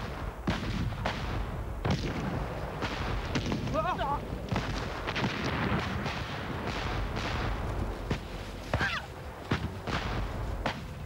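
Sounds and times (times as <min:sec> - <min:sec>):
continuous low rumble: 0:00.0 - 0:11.0
gunshots: 0:00.0 - 0:11.0.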